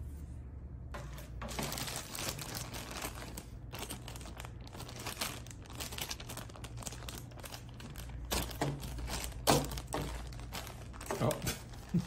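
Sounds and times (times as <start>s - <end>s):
steady low hum: 0.0s - 12.0s
plastic bag crinkling: 1.0s - 12.0s.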